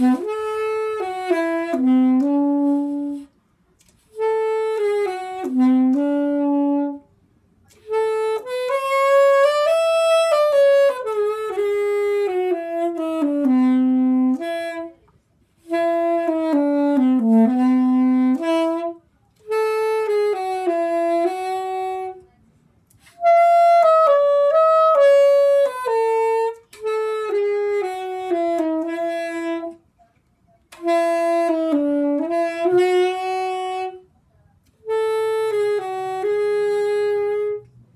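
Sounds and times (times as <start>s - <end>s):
soprano saxophone slow melody: 0.0s - 37.9s.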